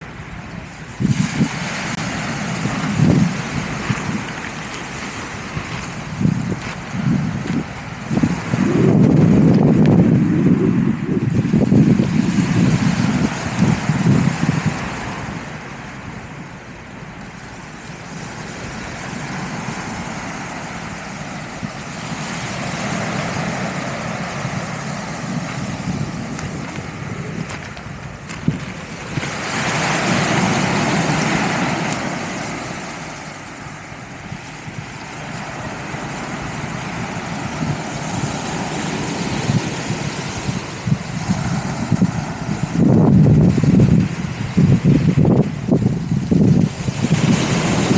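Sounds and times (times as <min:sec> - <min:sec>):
sea waves breaking on beach: 0:00.0 - 0:47.9
wind buffeting microphone: 0:00.0 - 0:47.9.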